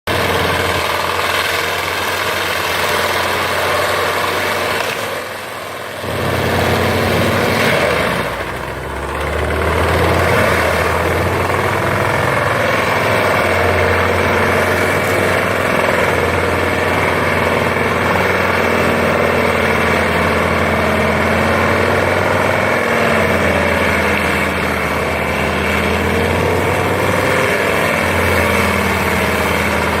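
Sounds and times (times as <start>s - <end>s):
tractor engine and rotor drone: 0.0s - 30.0s.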